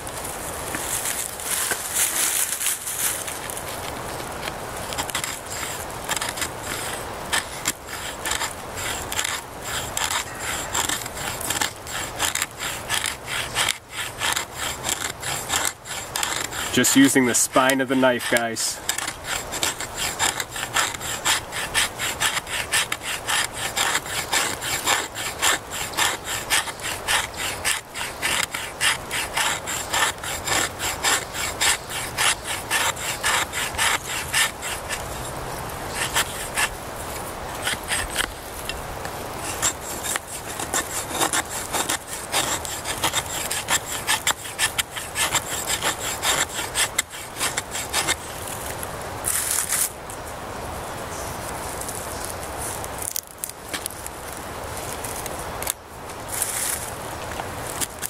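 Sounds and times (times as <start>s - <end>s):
knife scraping wooden stick: 0.7s - 50.0s.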